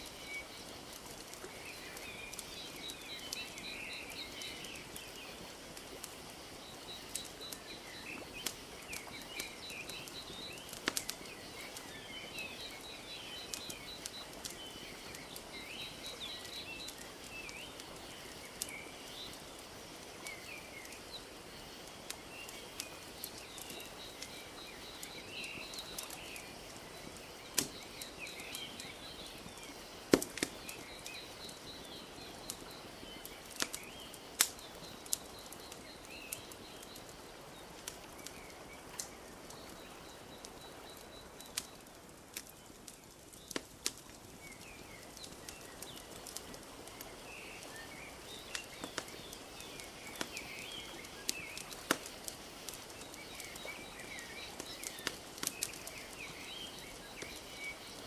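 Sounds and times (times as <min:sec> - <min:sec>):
small birds chirping: 0:00.0 - 0:58.0
wood fire crackling and popping: 0:00.0 - 0:58.0.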